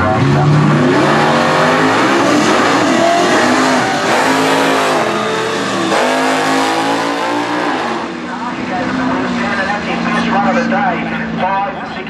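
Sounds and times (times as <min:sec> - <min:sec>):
drag cars accelerating at full throttle: 0:00.0 - 0:12.0.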